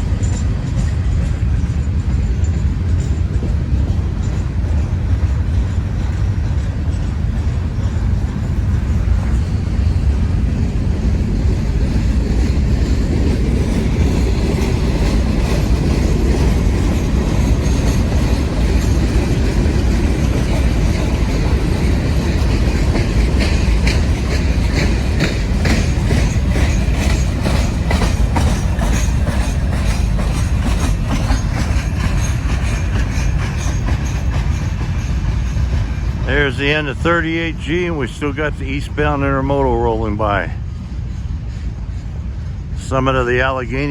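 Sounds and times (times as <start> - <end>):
freight train rolling past: 0.0 - 43.9
second freight train rolling by: 0.0 - 43.9
train wheels clacking over rail joints: 0.0 - 43.9.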